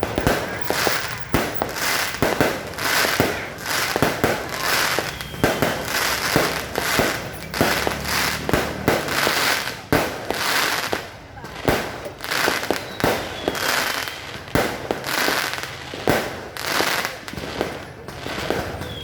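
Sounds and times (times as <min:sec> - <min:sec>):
continuous crackling: 0:00.0 - 0:19.0
fireworks bangs: 0:00.0 - 0:19.0.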